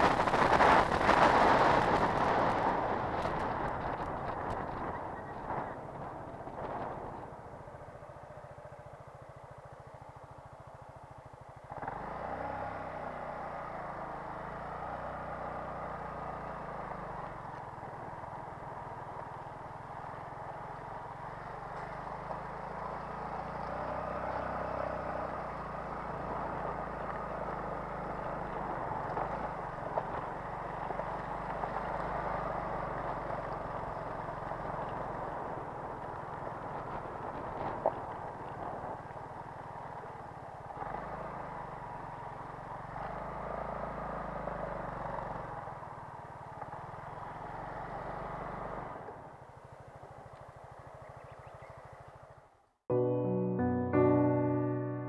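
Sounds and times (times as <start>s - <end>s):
motorcycle engine running: 0.0s - 52.7s.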